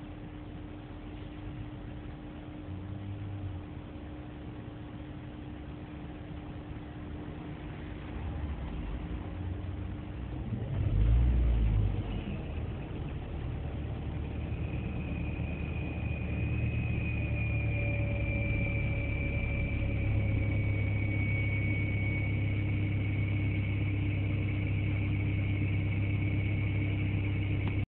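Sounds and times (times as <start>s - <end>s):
high thin generator whine: 0.0s - 27.9s
low vehicle hum: 0.0s - 27.9s.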